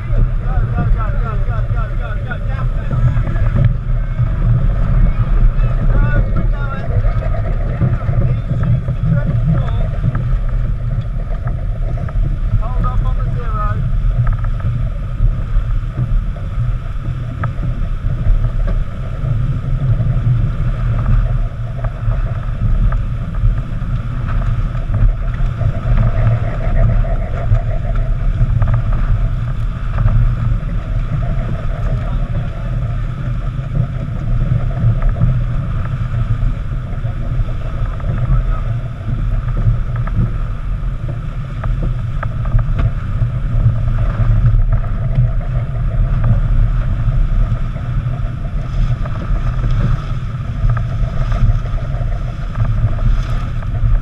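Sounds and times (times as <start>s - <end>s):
water rushing along hull: 0.0s - 54.0s
wind buffeting microphone: 0.0s - 54.0s.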